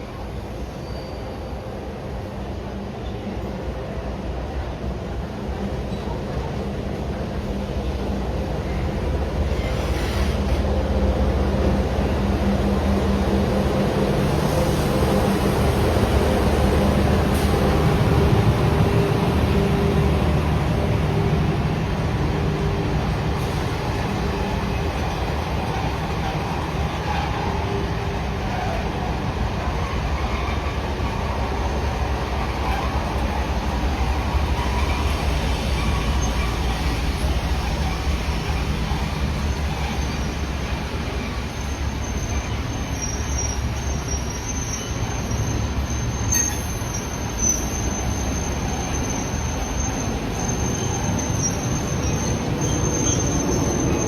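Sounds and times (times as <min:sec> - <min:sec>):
train rumbling by: 0:00.0 - 0:54.0.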